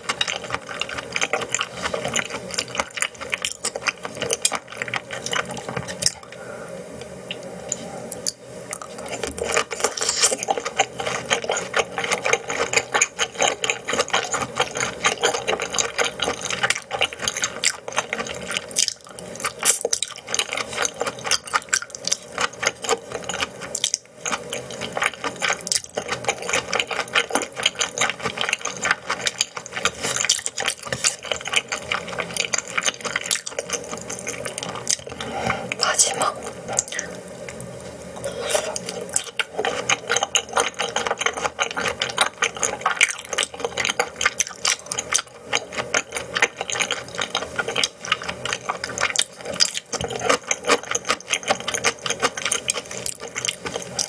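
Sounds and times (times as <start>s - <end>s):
chewing and wet mouth sounds: 0.0s - 6.4s, 7.0s - 54.0s.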